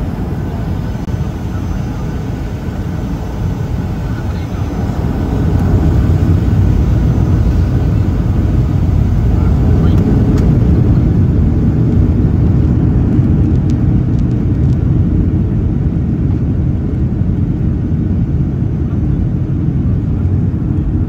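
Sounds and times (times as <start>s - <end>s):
airplane cabin rumble while taxiing: 0.0s - 21.0s.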